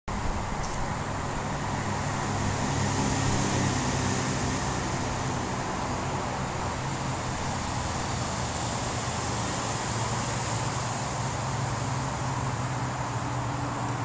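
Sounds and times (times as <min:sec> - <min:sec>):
low drone: 0:00.1 - 0:14.0
road traffic hum: 0:00.1 - 0:14.0.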